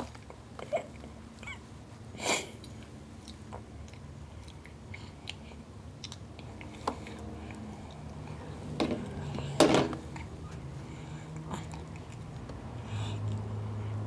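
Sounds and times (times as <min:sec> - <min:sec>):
toddler chewing food: 0:00.0 - 0:14.0.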